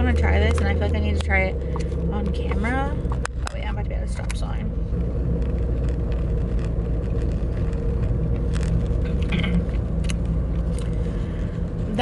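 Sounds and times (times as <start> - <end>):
car engine rumble from inside: 0.0 - 12.0.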